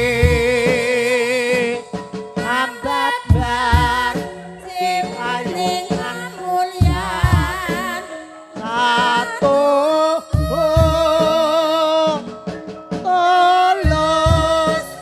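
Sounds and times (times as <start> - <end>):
deep drum strokes: 0.0 - 9.5, 10.4 - 13.2, 13.8 - 15.0
high voice singing: 0.0 - 12.3, 13.1 - 15.0
ringing metallophone tones: 0.0 - 15.0.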